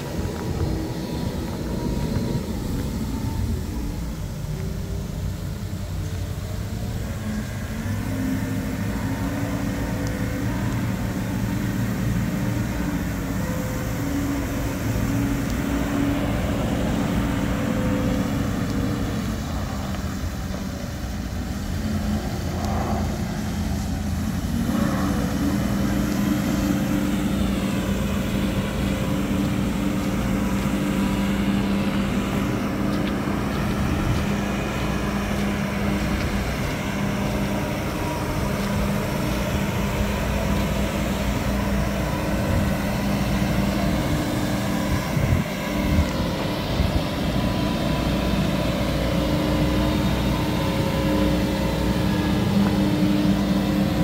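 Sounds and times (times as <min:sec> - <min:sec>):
water spray hissing: 0:00.0 - 0:53.8
diesel truck engine running: 0:00.0 - 0:54.0.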